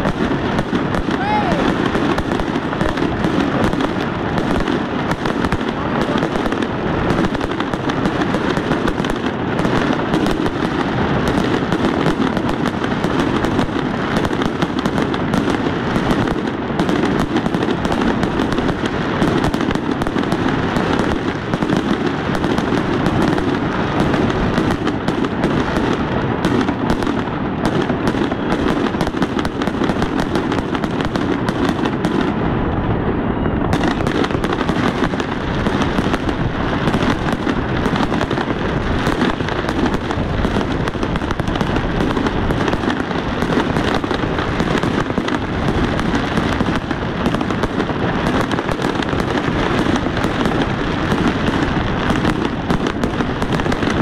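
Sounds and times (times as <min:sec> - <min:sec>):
fireworks popping and banging: 0:00.0 - 0:54.0.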